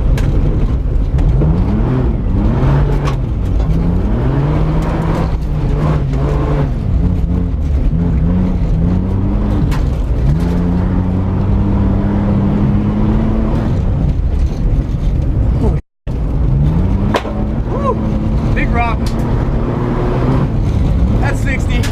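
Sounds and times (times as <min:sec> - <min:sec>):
car engine revving hard: 0:01.2 - 0:14.1, 0:16.3 - 0:21.9.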